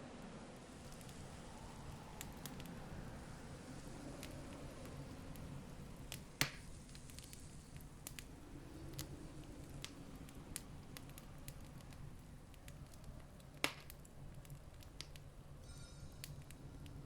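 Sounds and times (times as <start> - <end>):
campfire crackling: 0.5 - 17.0
sharp pops of fire: 0.8 - 17.0.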